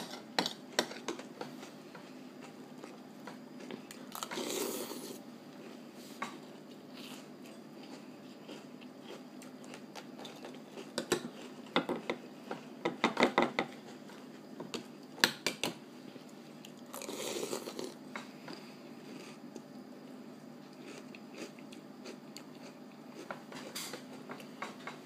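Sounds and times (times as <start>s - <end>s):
crunchy chewing: 0.0s - 13.0s, 16.2s - 25.0s.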